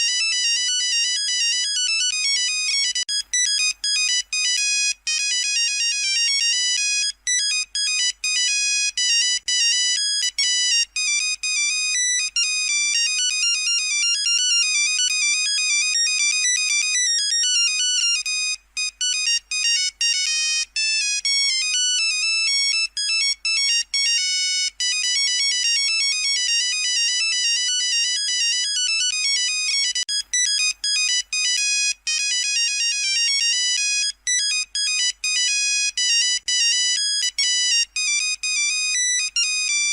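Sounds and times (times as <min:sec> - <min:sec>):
monophonic phone ringtone: 0:00.0 - 0:39.9.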